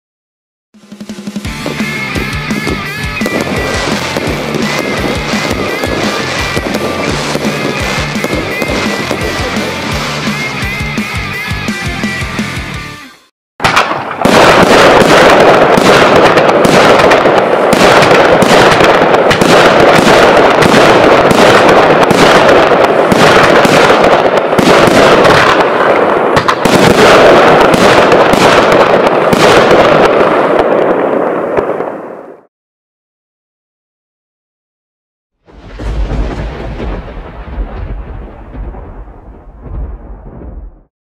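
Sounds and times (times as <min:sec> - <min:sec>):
fireworks firing in quick succession: 0:00.8 - 0:11.4, 0:13.6 - 0:32.5, 0:35.4 - 0:40.9.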